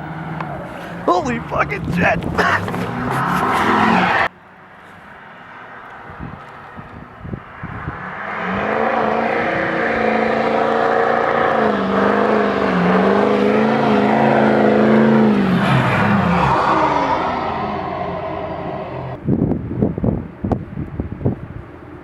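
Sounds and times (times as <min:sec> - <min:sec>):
vehicle engine revving: 0:00.0 - 0:19.2.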